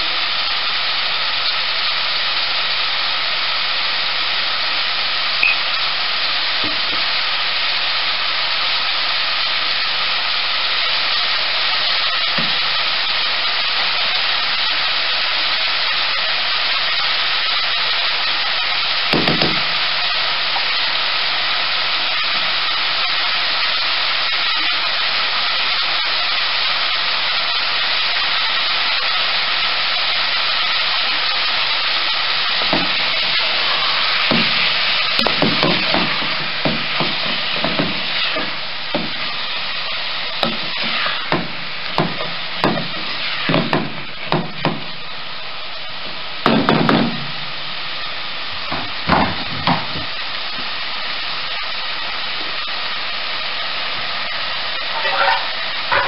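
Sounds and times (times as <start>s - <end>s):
onions sizzling in a pot: 0.0s - 56.0s.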